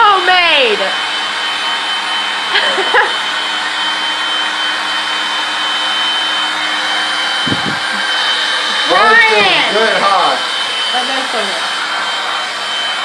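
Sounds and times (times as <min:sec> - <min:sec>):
electric air pump whining: 0:00.0 - 0:13.0.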